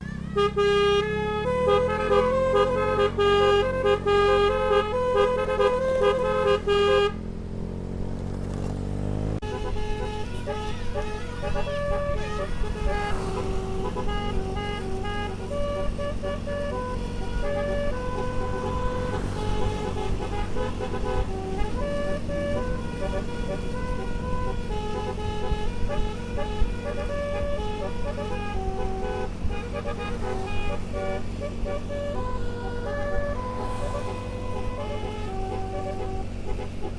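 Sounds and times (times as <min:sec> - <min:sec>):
bus horn playing a tune: 0:00.0 - 0:07.4, 0:09.2 - 0:36.9
engine running: 0:00.0 - 0:36.9.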